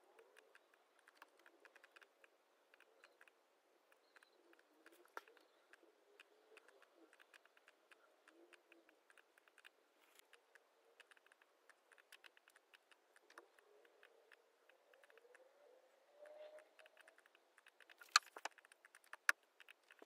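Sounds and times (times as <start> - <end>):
laptop keyboard and mouse clicking: 0.1 - 20.0.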